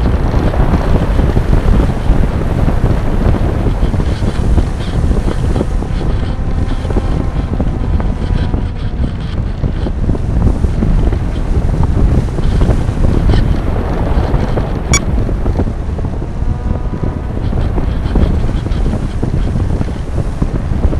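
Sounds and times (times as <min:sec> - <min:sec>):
airflow buffeting microphone: 0:00.0 - 0:20.9.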